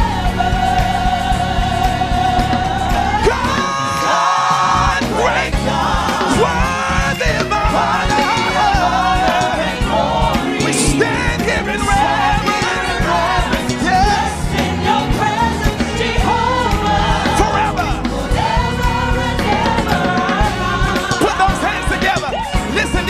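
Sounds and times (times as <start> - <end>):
gospel band with singers: 0.0 - 23.0.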